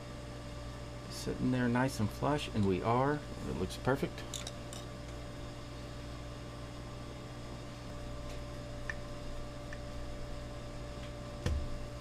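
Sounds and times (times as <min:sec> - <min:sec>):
electrical mains hum with hiss: 0:00.0 - 0:12.0.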